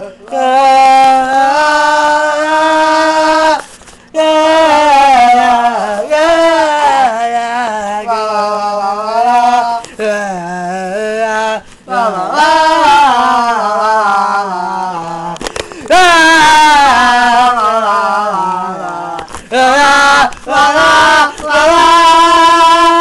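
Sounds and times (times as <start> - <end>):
person singing la la la: 0.0 - 23.0.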